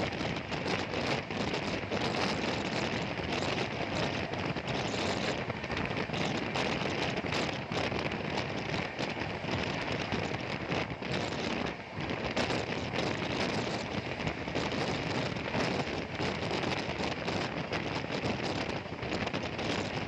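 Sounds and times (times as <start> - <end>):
moving train wind and wheels: 0.0 - 20.0.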